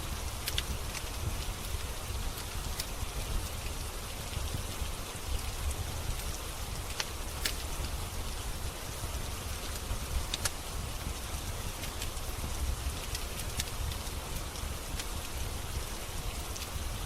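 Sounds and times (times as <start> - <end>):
rain falling: 0.0 - 17.0
wood fire crackling: 0.0 - 17.0.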